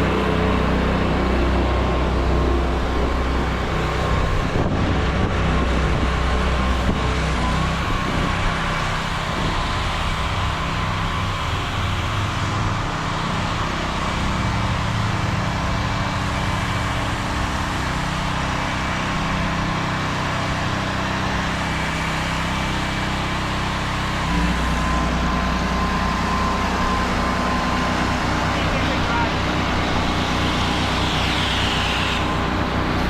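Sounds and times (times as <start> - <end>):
small engine running: 0.0 - 33.0.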